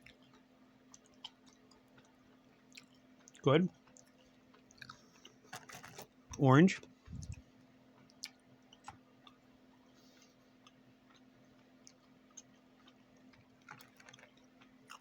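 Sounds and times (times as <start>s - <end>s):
mouth clicks of chewing candy: 0.0s - 6.4s, 8.0s - 9.5s, 10.6s - 15.0s
steady low hum: 0.0s - 15.0s.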